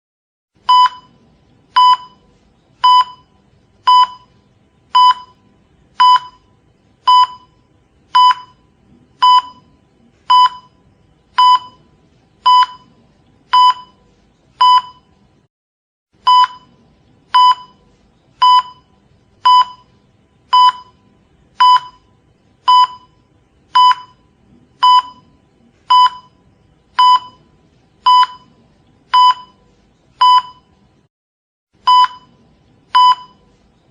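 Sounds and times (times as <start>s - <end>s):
heart monitor beeping: 0.6s - 14.0s, 14.6s - 15.2s, 16.2s - 30.8s, 31.8s - 33.5s
faint low room noise: 0.6s - 15.5s, 16.2s - 31.1s.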